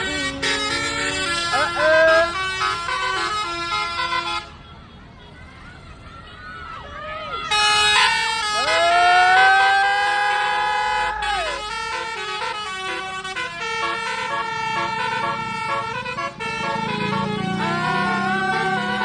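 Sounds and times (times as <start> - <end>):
bus air horn tune: 0.0 - 5.0, 7.3 - 19.0.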